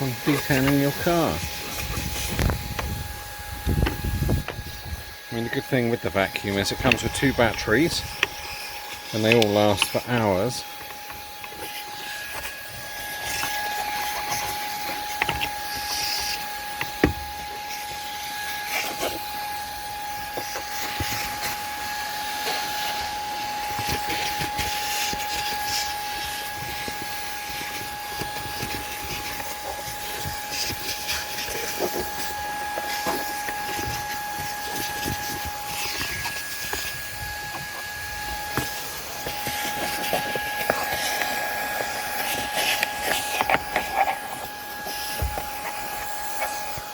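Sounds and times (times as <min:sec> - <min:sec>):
cordless vacuum whine and hiss: 0:00.0 - 0:46.9.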